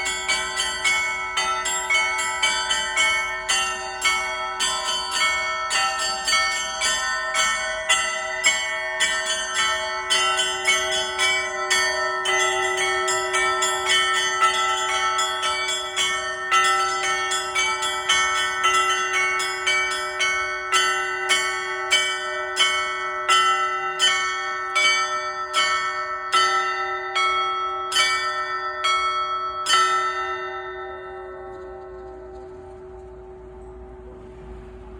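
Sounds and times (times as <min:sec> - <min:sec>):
small bells struck rapidly: 0:00.0 - 0:32.6
hum of large bells: 0:00.0 - 0:34.9.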